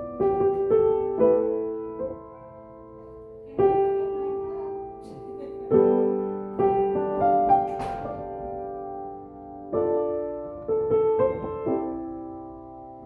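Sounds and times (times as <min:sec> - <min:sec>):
slow solo piano chords: 0:00.0 - 0:13.0.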